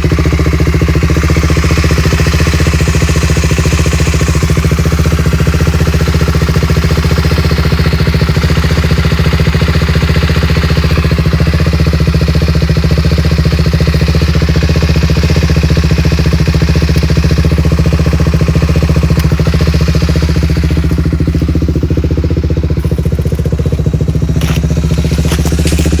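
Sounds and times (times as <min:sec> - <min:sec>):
quad engine idling: 0:00.0 - 0:26.0.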